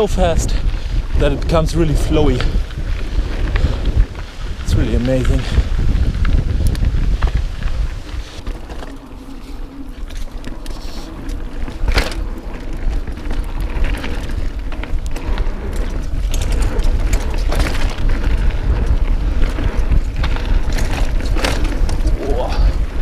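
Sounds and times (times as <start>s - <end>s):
bike tyres rolling and rattling: 0.0s - 23.0s
wind buffeting microphone: 0.0s - 23.0s.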